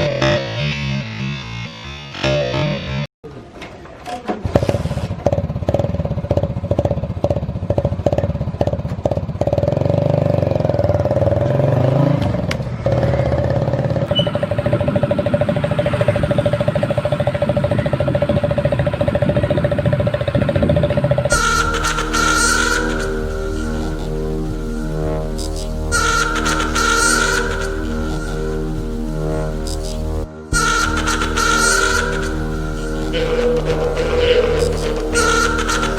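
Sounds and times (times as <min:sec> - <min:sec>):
motorcycle engine revving: 0:05.0 - 0:35.9.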